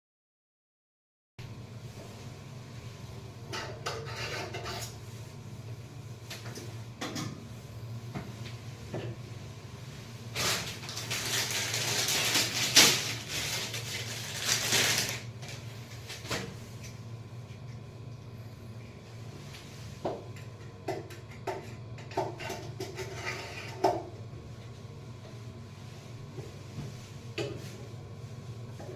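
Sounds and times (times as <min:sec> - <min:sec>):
steady low hum: 0:01.4 - 0:28.9.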